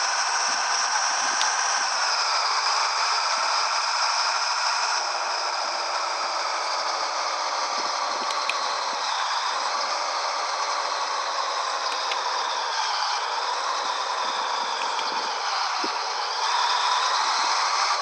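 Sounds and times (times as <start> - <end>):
constant rattling: 0.0 - 18.0
truck engine running: 0.0 - 18.0.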